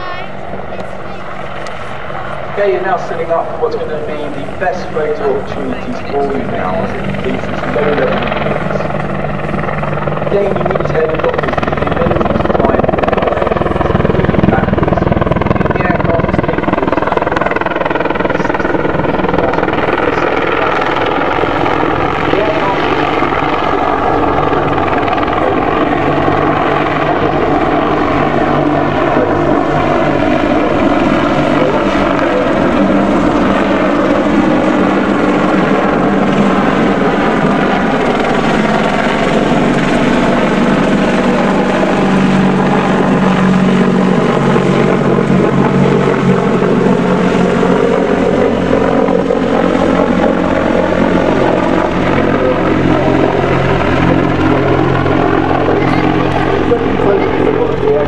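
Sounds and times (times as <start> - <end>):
helicopter flying past: 0.0 - 58.0.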